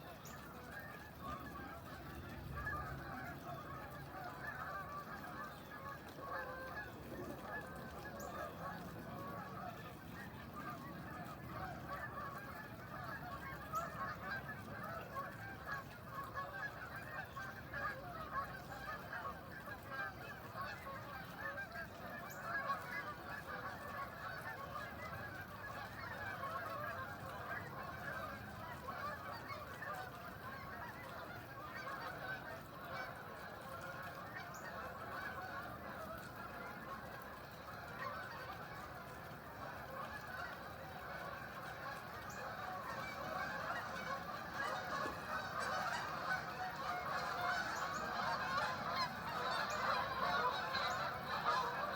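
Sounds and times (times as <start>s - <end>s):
flock of birds calling: 0.0s - 51.9s.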